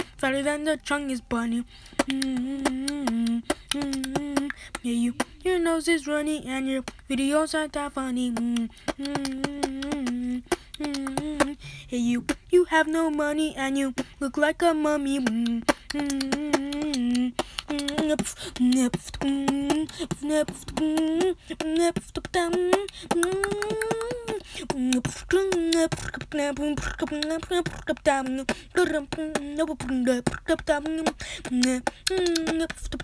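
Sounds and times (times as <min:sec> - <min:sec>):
person beatboxing: 0:00.0 - 0:33.0.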